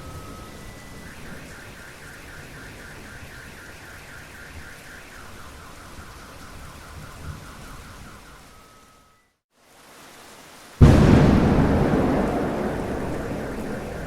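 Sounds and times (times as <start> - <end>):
steady rain: 0.0 - 8.8, 9.5 - 14.0.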